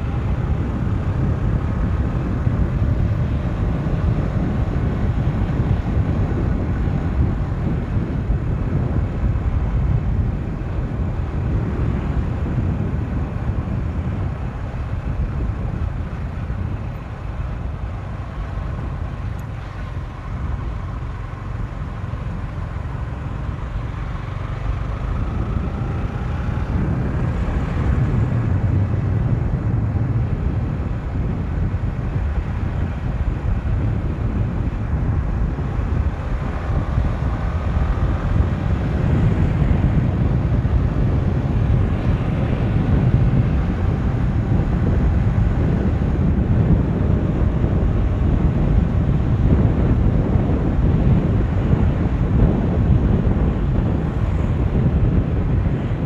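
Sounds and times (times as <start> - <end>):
motorcycle engine: 0.0 - 56.0
wind buffeting microphone: 0.0 - 56.0.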